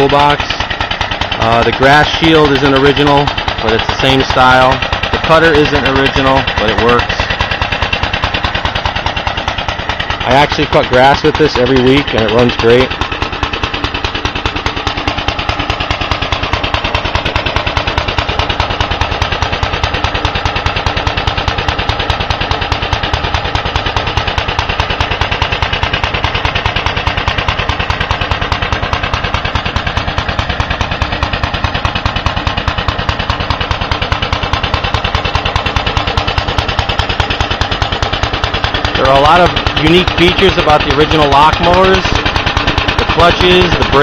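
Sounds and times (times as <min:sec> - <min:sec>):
mower engine running steadily: 0:00.0 - 0:44.0.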